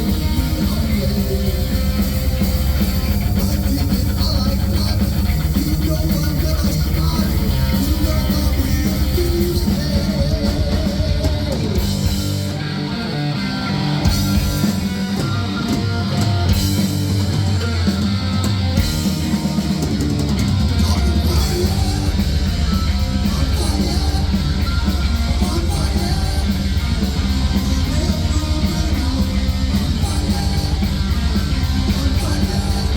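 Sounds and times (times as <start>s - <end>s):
heavy metal band playing: 0.0s - 32.9s.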